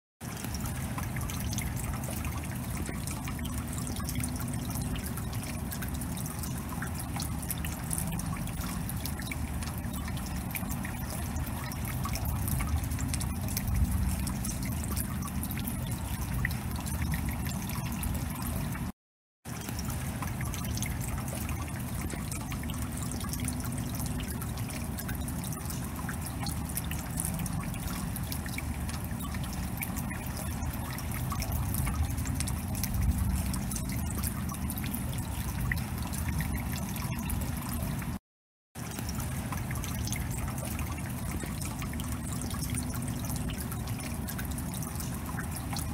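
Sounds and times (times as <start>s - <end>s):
rainwater dripping: 0.2s - 38.2s, 38.8s - 45.9s
running water trickling: 0.2s - 38.2s, 38.8s - 45.9s.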